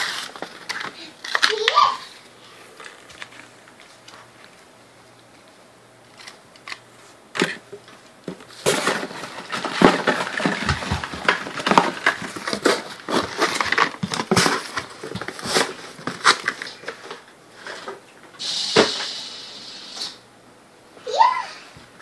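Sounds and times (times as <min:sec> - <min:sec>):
rustling and crackling handling: 0:00.0 - 0:18.0.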